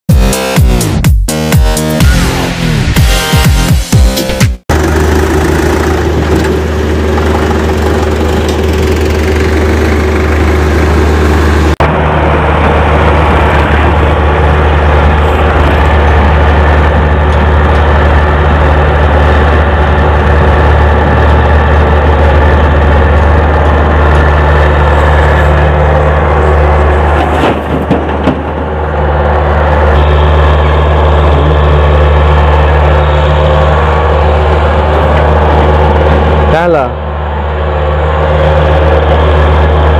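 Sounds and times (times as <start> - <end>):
tractor diesel engine running: 4.7 - 39.9.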